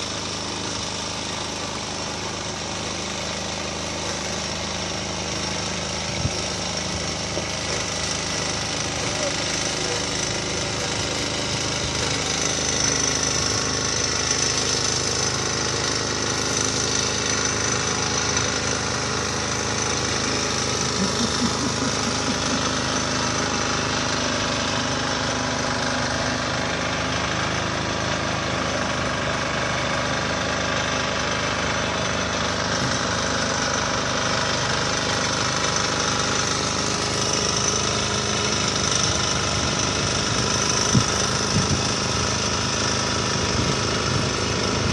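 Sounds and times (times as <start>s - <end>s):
machinery engine running: 0.0s - 44.9s.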